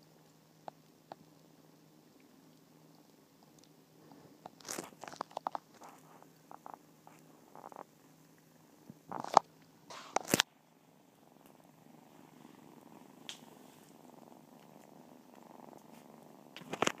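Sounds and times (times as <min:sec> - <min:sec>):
kittens purring: 0:00.0 - 0:17.0.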